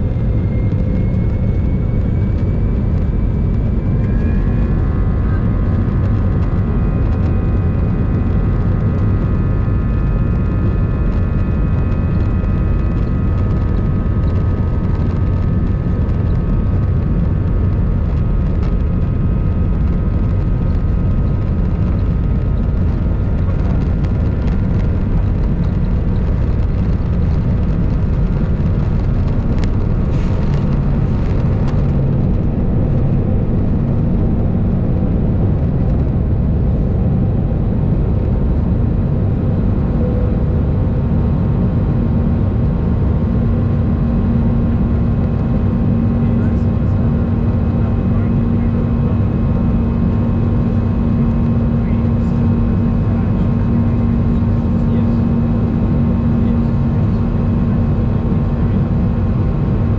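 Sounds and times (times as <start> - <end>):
jet engine rumble: 0.0 - 59.9
jet engine whine: 0.0 - 59.9.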